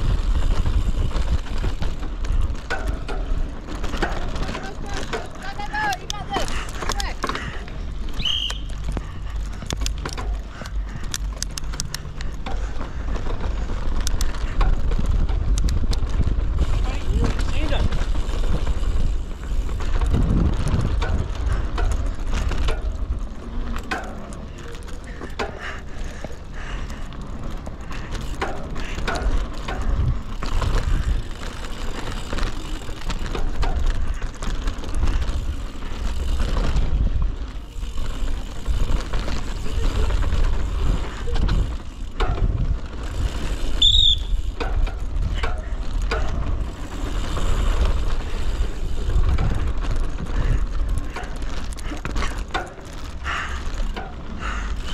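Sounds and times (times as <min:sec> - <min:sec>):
bike rattling and clicking: 0:00.0 - 0:54.9
bike tyres rolling on dirt: 0:00.0 - 0:54.9
low rumble: 0:00.0 - 0:54.9.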